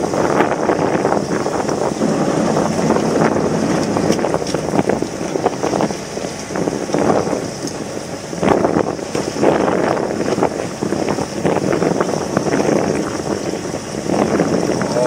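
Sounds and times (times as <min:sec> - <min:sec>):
water lapping against boat hull: 0:00.0 - 0:15.0
wind buffeting microphone: 0:00.0 - 0:15.0.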